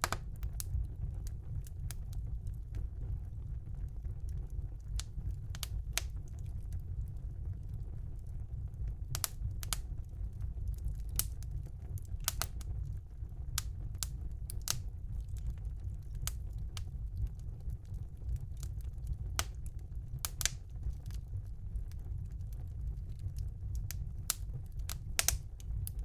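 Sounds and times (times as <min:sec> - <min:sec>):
fire rumbling: 0:00.0 - 0:26.0
logs crackling and popping: 0:00.0 - 0:26.0.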